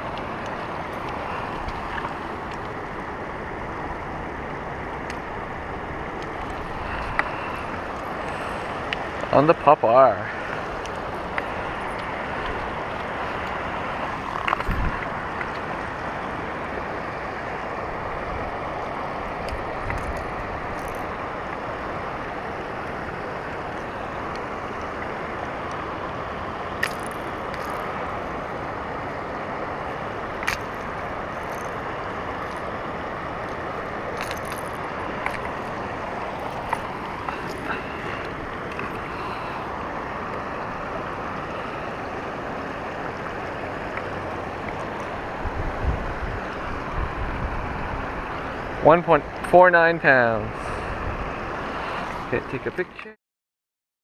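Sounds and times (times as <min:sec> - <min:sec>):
river water rushing over rocks: 0:00.0 - 0:52.9.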